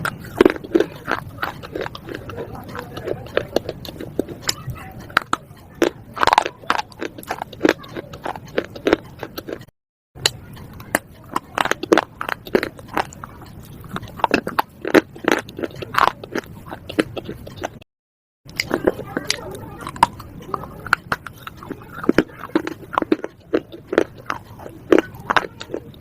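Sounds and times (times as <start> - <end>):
slate being bitten and chewed: 0.0 - 17.9, 18.5 - 26.0.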